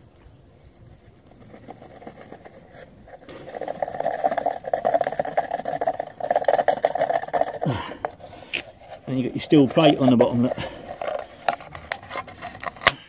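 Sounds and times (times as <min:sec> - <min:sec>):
sand pouring and rattling: 0:00.0 - 0:12.8.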